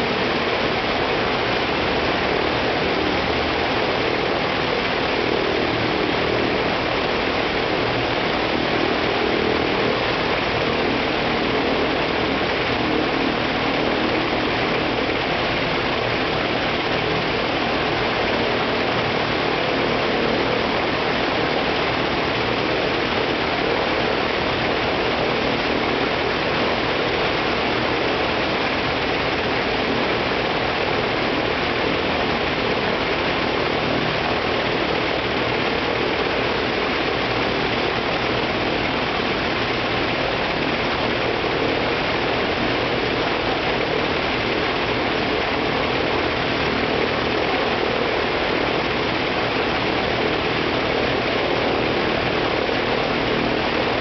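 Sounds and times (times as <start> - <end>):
radial aircraft engine running: 0.0 - 54.0.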